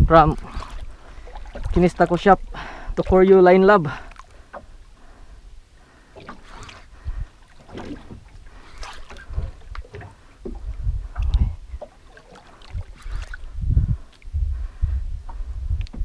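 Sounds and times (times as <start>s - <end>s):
wind buffeting microphone: 0.0s - 3.6s, 4.4s - 16.0s
water lapping against boat hull: 0.0s - 16.0s.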